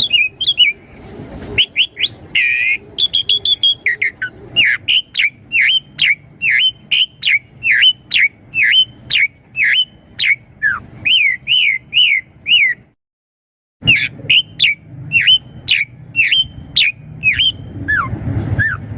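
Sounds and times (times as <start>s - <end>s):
starling whistling calls: 0.0s - 12.9s, 13.8s - 18.9s.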